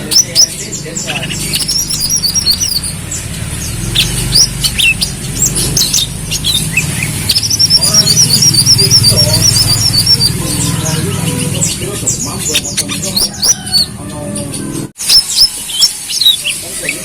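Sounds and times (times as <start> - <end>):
bird chirping and trilling: 0.0 - 17.0.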